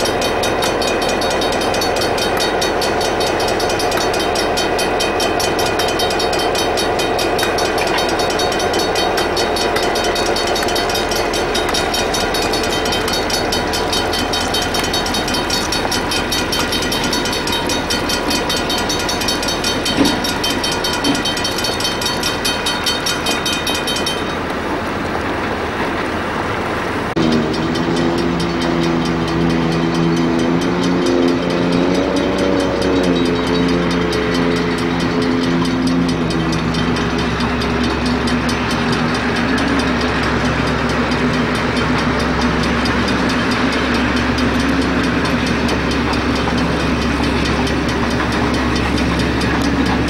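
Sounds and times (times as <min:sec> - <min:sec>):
diesel locomotive engine drone: 0:00.0 - 0:50.0.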